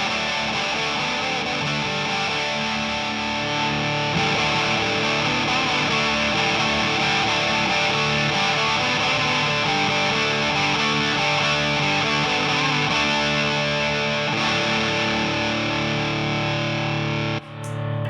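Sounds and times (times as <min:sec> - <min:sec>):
fuzzed electric guitar chords: 0:00.0 - 0:18.0.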